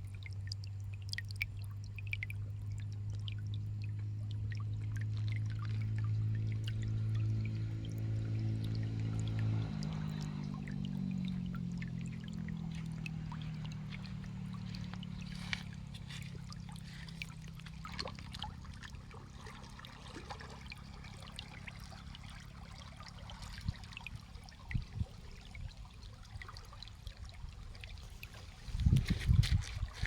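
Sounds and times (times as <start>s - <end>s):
low steady hum: 0.0s - 30.0s
river water flowing: 0.0s - 30.0s.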